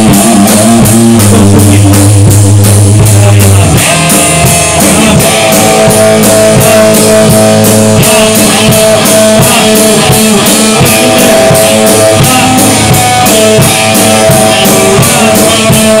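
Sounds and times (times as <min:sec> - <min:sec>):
drum kit steady beat: 0:00.0 - 0:16.0
guitar sustained notes: 0:00.0 - 0:16.0
rock band playing: 0:00.0 - 0:16.0.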